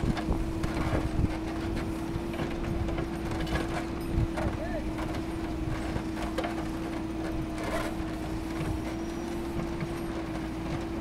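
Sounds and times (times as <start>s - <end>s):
diesel engine rumble: 0.0s - 11.0s.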